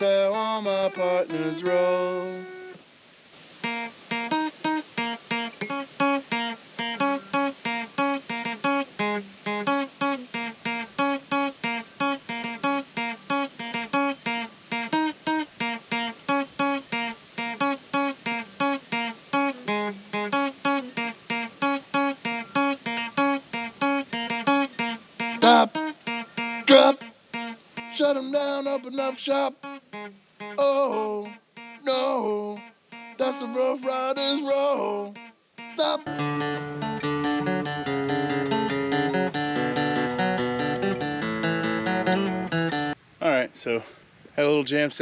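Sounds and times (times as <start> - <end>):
acoustic guitar strumming: 0.0 - 2.8, 3.6 - 43.0.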